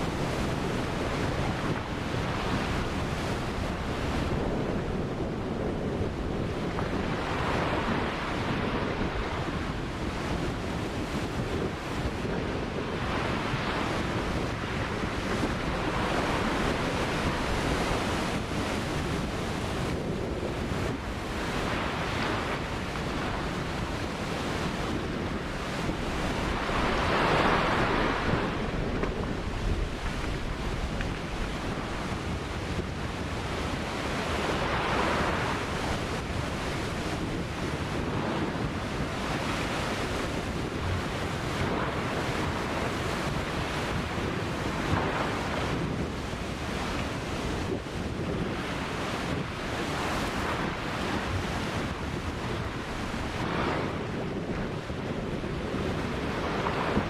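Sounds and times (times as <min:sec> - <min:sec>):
ocean waves breaking: 0:00.0 - 0:57.0
wind on the microphone: 0:00.0 - 0:57.0.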